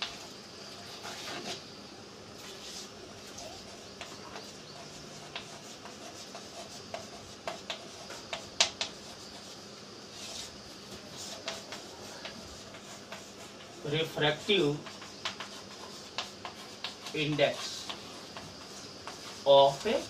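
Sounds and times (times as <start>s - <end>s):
chalk scratching on blackboard: 0.0s - 1.7s, 2.4s - 20.0s
chalk tapping on blackboard: 2.6s - 20.0s.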